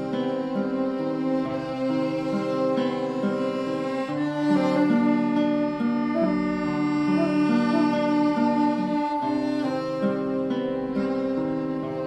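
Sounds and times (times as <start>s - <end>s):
bowed strings film score: 0.0s - 12.0s.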